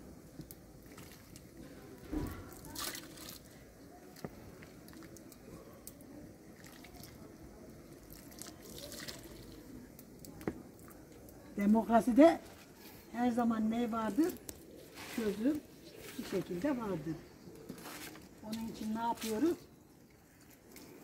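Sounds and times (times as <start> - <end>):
thick jam dripping and slopping: 0.0 - 13.1, 13.8 - 21.0.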